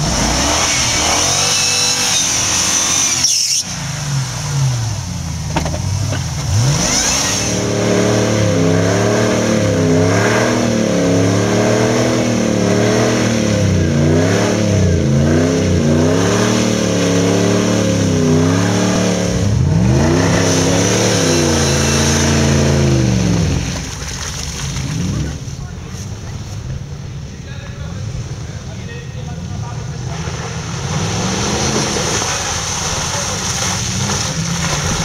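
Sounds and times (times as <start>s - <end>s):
off-road engine revving: 0.0s - 35.0s.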